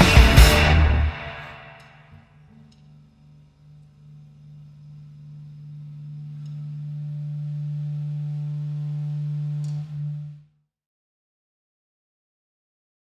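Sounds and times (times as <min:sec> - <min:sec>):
low hum from amplified instruments: 0:00.0 - 0:10.6.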